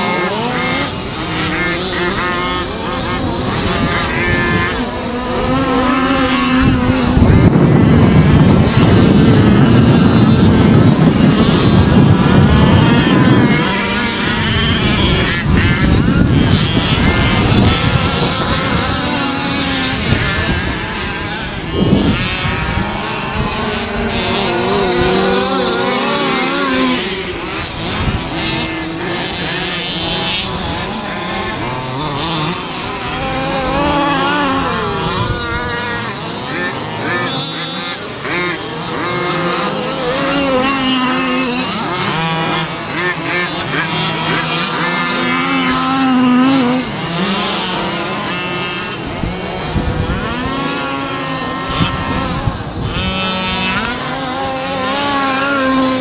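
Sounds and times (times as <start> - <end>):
rc car engines revving: 0.0 - 56.0.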